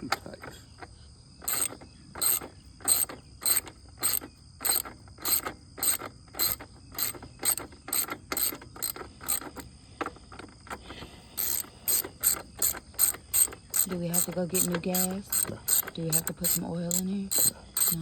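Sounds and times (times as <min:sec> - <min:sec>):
insects droning: 0:00.0 - 0:18.0
ratchet wrench clicking: 0:01.4 - 0:09.7, 0:11.4 - 0:18.0.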